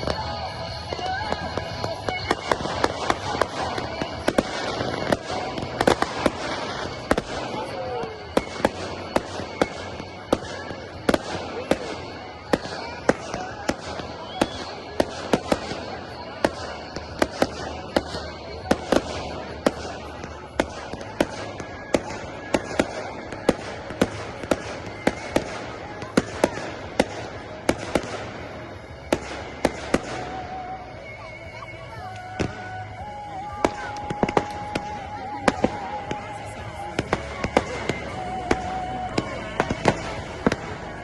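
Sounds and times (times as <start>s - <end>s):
fireworks crackle and hiss: 0.0s - 41.0s.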